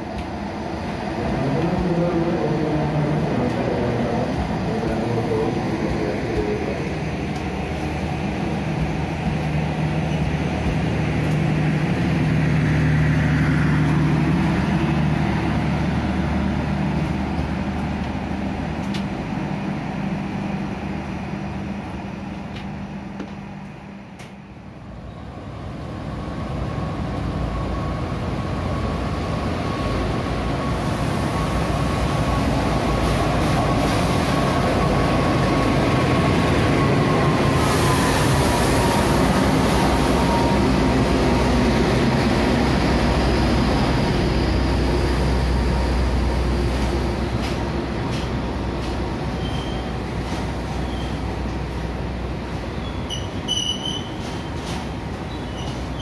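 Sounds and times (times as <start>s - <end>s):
diesel locomotive high whine: 0.0s - 56.0s
train coaches rumbling past: 0.0s - 56.0s.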